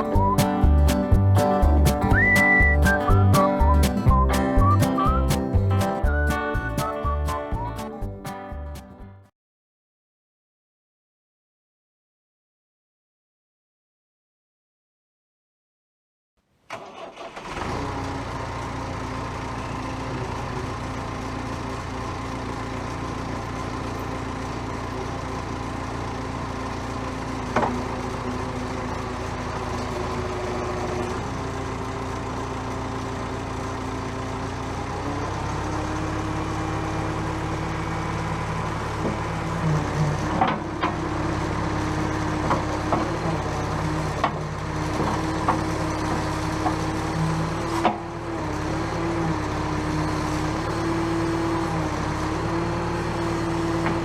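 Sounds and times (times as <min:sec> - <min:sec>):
diesel engine running: 0:00.0 - 0:09.3, 0:16.8 - 0:54.0.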